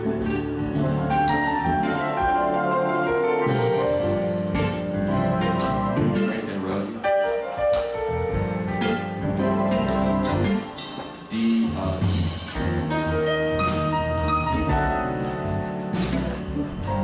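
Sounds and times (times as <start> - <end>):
bass line: 0.0 - 6.7, 7.9 - 10.7, 11.3 - 17.0
keyboard chords: 0.0 - 17.0.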